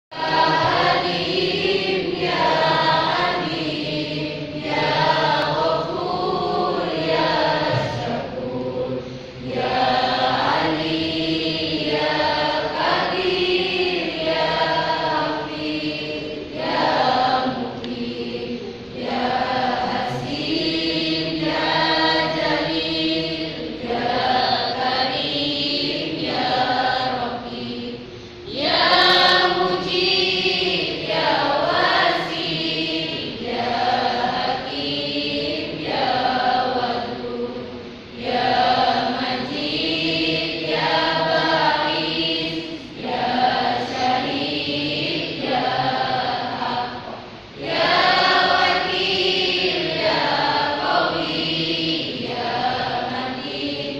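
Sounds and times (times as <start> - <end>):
choir singing: 0.1 - 53.9.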